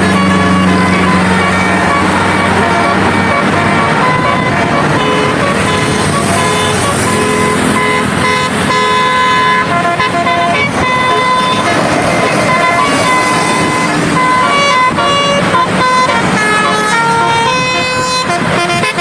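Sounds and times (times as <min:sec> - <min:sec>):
musical air horns tune: 0:00.0 - 0:19.0
road vehicle noise: 0:00.0 - 0:19.0.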